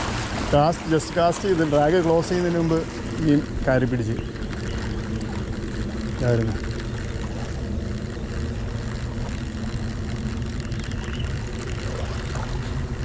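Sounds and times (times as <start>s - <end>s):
motor engine droning: 0.0s - 13.0s.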